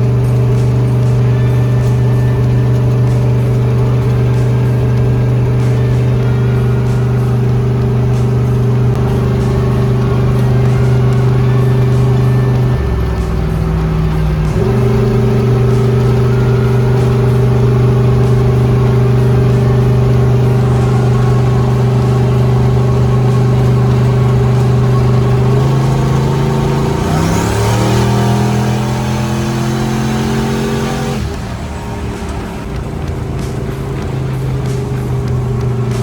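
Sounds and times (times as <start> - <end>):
truck engine droning: 0.0 - 36.0.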